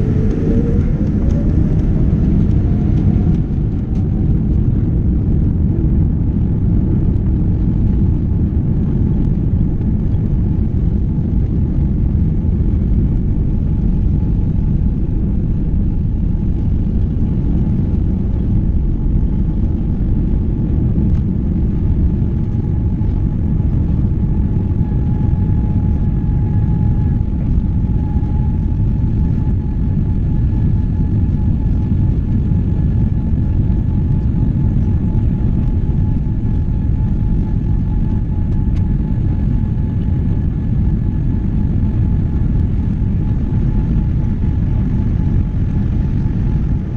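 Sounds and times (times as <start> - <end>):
faint steady whine: 0.0 - 46.9
jet engines rumbling: 0.0 - 46.9.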